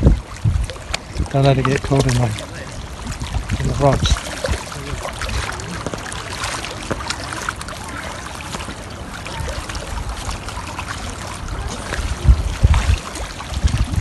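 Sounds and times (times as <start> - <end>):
water splashing and trickling: 0.0 - 14.0
wind buffeting microphone: 0.0 - 14.0.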